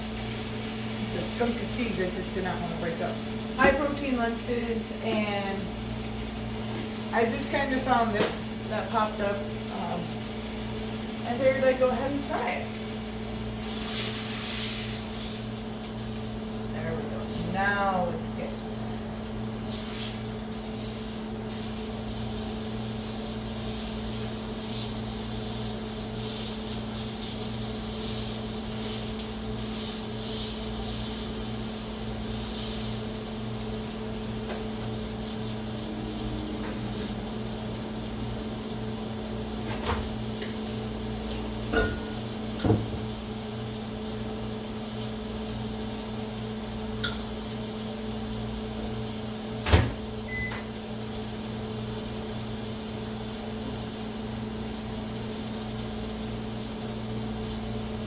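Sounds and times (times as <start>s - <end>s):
microwave oven humming: 0.0s - 58.0s.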